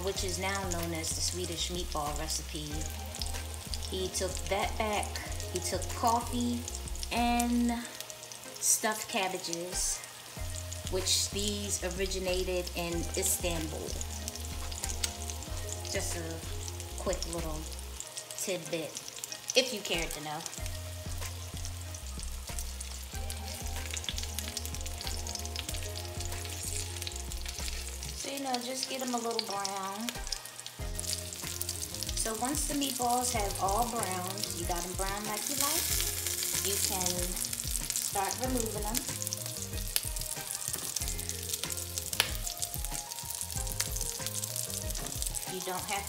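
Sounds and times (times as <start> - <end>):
meatballs sizzling in oil: 0.0 - 46.0.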